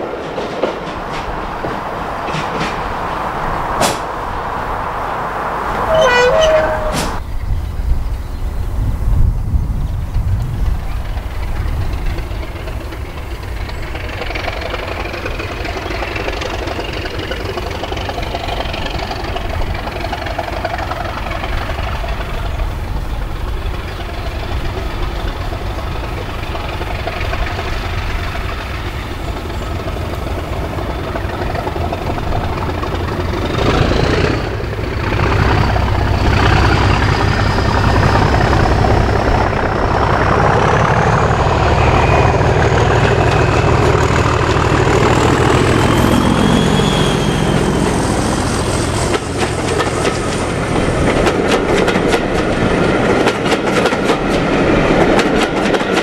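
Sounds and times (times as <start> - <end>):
diesel locomotive engine with whine: 0.0 - 56.0.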